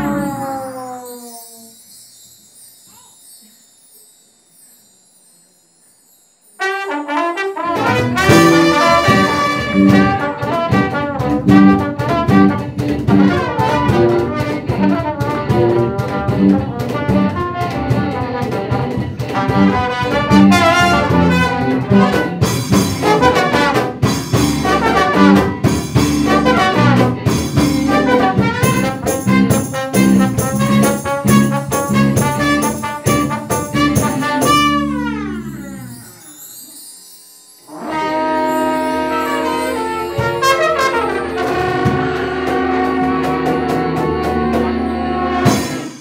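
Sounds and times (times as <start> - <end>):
live band with brass: 6.6 - 35.5, 37.7 - 46.0.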